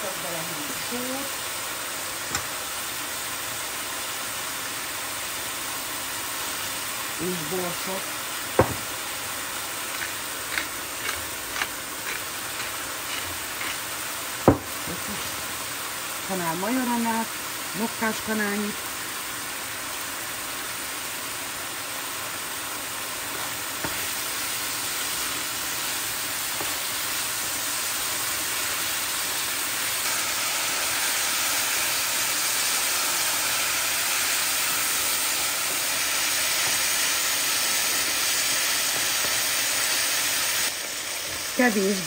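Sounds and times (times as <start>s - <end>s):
chicken sizzling in frying pan: 0.0s - 42.0s.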